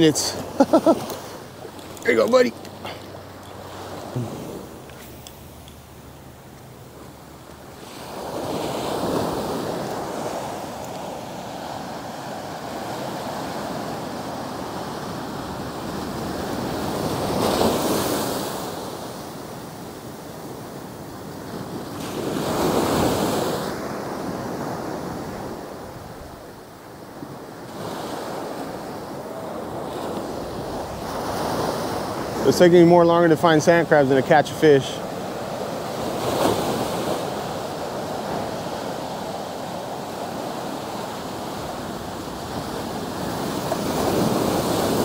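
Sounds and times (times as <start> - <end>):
small waves breaking on sand: 0.0 - 45.0.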